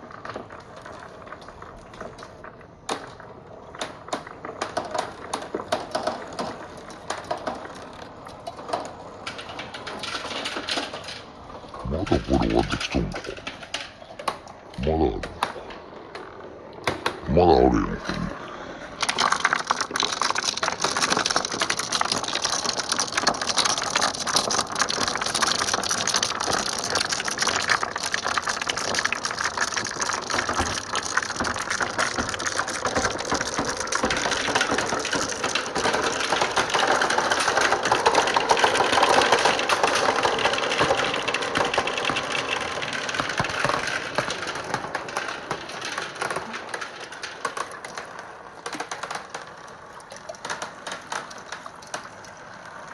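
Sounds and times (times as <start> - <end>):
marbles rattling through pipes: 4.6 - 14.0, 17.3 - 52.9.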